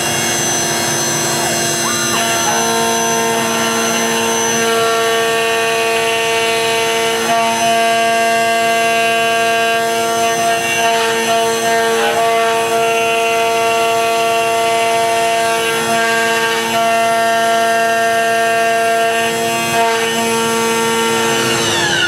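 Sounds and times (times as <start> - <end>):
router spindle whining: 0.0 - 22.0.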